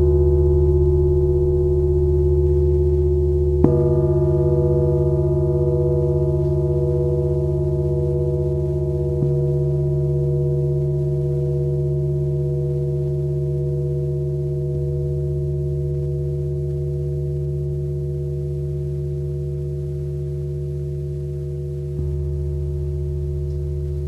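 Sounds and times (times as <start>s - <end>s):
iron plates ringing like a gong: 0.0s - 24.0s.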